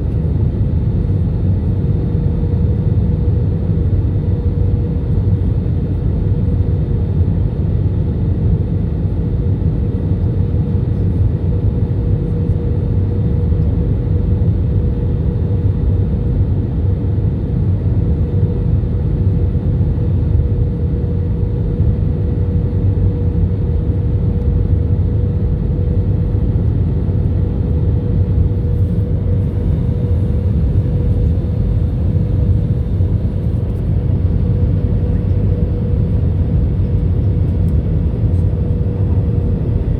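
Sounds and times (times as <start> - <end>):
engine and airflow rumble: 0.0 - 39.9
mid-pitched hum: 0.0 - 39.9.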